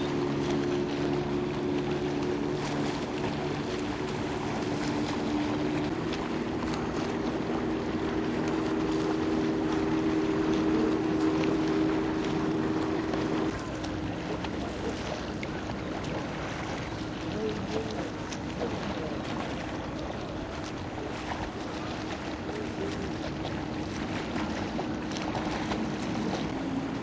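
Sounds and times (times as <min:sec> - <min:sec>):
motorboat engine running: 0:00.0 - 0:27.0
water noise: 0:00.0 - 0:27.0
wind: 0:00.0 - 0:27.0.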